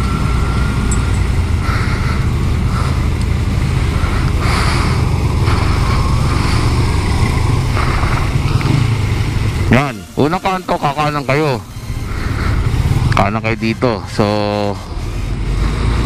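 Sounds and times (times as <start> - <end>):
low wind rumble: 0.0 - 16.0
motorcycle engine running: 0.0 - 16.0
passing traffic noise: 0.0 - 16.0.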